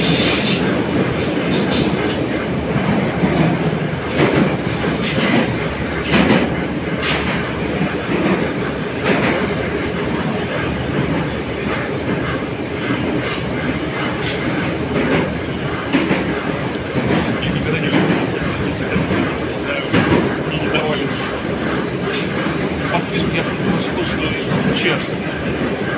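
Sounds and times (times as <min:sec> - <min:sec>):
metro car rumble in tunnel: 0:00.0 - 0:25.9.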